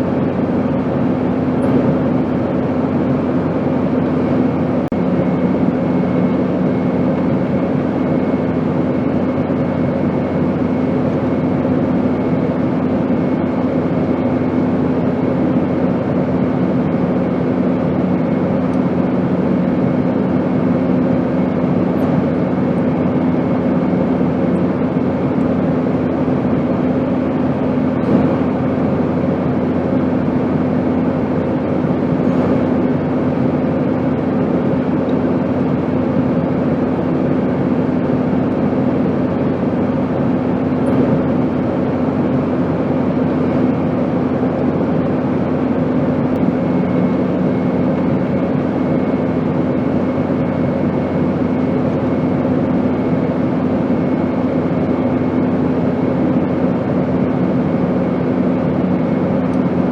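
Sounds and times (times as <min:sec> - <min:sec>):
airplane drone: 0:00.0 - 0:59.9.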